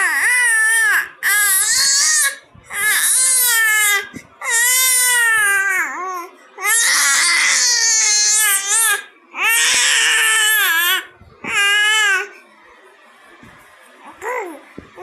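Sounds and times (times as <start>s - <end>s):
baby wailing: 0.0s - 12.3s.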